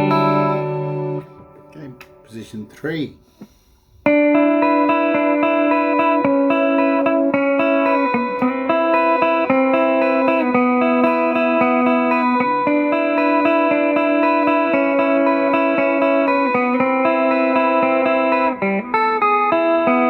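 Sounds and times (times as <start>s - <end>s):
electric guitar picked notes: 0.0s - 2.7s, 4.0s - 20.0s.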